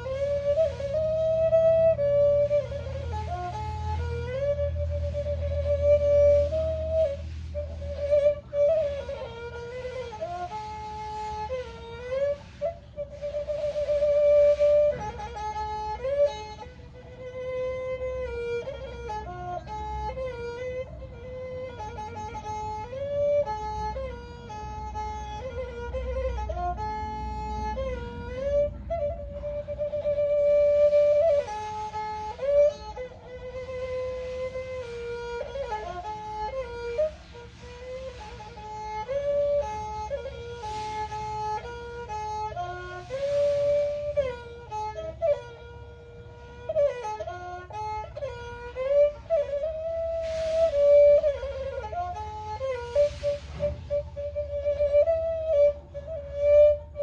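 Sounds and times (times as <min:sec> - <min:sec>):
bowed two-string fiddle melody: 0:00.0 - 0:57.0.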